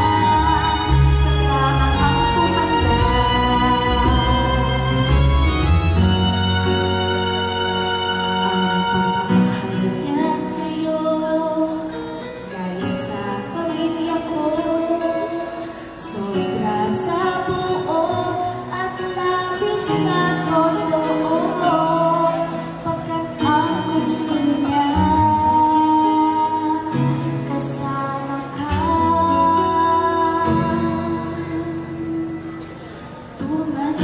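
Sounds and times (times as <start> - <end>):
woman singing into a microphone: 0.0 - 5.1, 6.5 - 34.0
instrumental accompaniment: 0.0 - 34.0.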